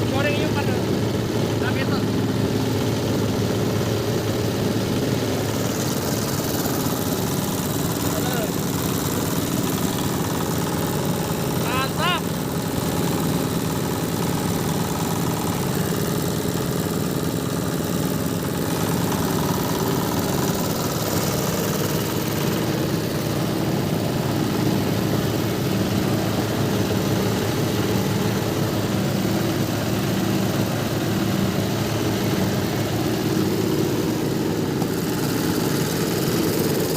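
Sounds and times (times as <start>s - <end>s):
hammer mill grinding machine: 0.0s - 36.9s.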